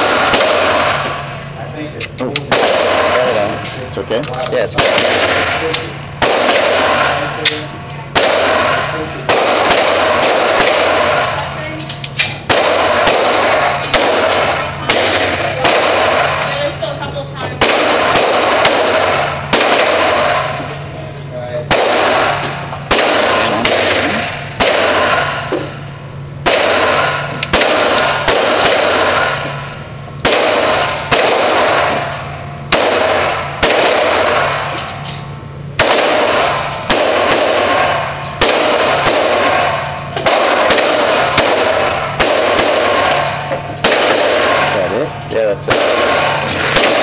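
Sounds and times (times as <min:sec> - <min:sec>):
pistol shots echoing: 0:00.0 - 0:01.6, 0:02.3 - 0:47.0.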